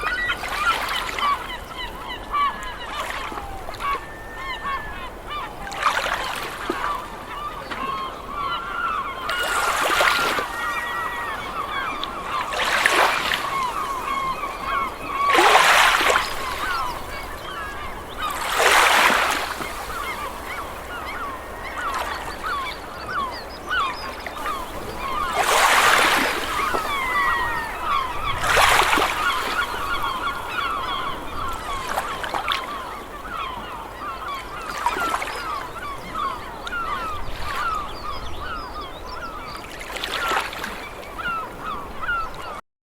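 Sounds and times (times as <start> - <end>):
birds honking: 0.0 - 42.6.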